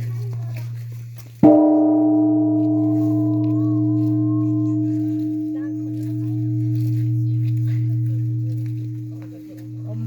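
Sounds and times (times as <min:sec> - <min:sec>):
large bronze bell ringing: 0:00.0 - 0:10.0.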